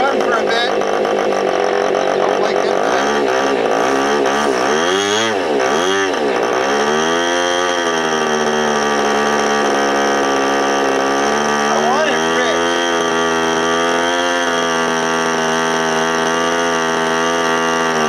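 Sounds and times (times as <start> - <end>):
model airplane engine revving: 0.0 - 18.0.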